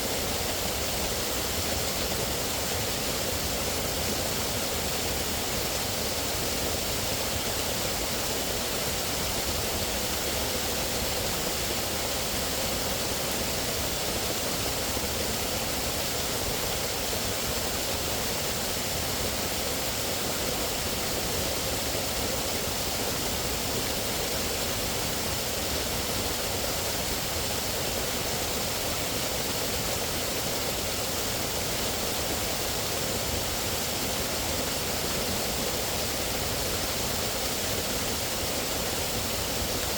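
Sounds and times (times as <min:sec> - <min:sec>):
outdoor nature ambience rushing: 0:00.0 - 0:39.9.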